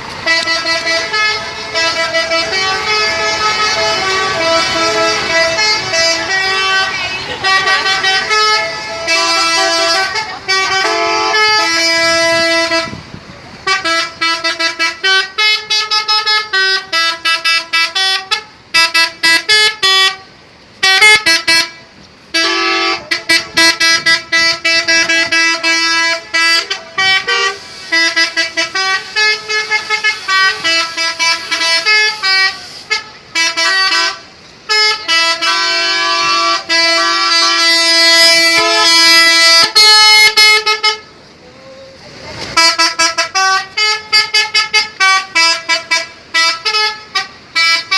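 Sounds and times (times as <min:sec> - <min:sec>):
multi-tone bus horn melodies: 0:00.0 - 0:41.3, 0:41.9 - 0:47.9.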